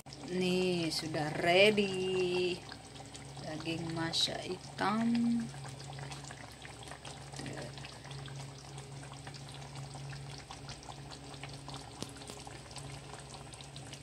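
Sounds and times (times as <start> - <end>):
curry bubbling and sputtering: 0.0 - 14.0.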